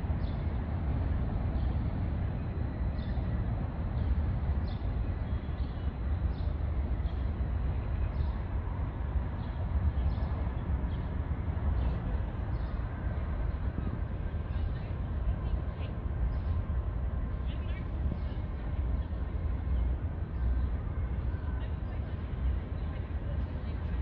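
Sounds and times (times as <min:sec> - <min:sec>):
low city rumble: 0:00.0 - 0:24.0.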